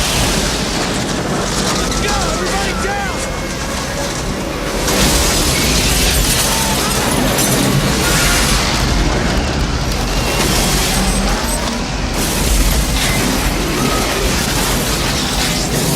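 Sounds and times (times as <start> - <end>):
storm wind roaring: 0.0 - 15.9.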